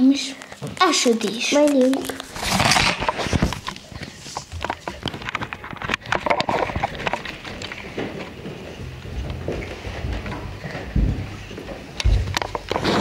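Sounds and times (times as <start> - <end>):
rustling: 0.7 - 13.0.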